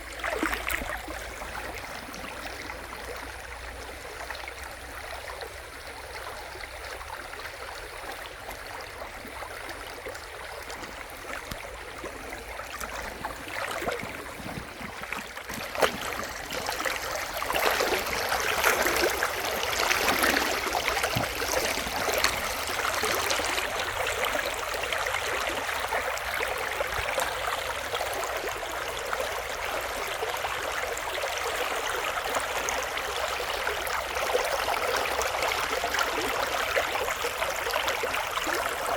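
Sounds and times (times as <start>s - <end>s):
river running over stones: 0.0s - 38.9s.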